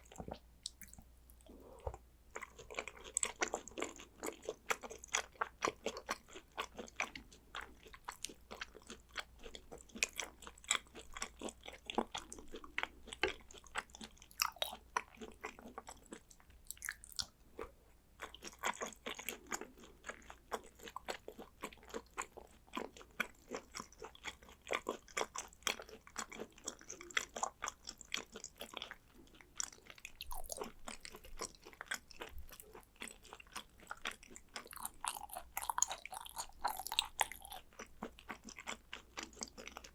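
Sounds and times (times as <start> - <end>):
close chewing mouth clicks: 0.0 - 39.9.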